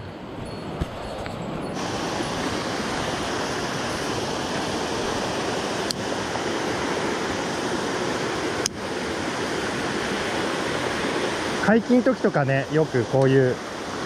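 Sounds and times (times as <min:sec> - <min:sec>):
rushing mountain stream: 0:00.2 - 0:14.0.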